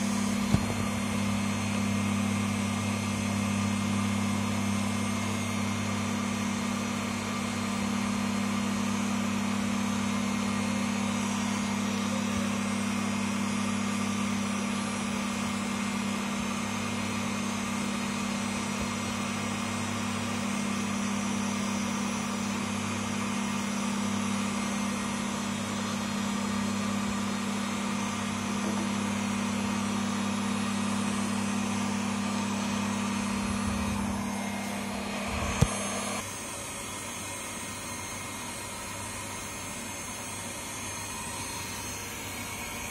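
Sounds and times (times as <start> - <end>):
electric motor humming: 0.0 - 42.9.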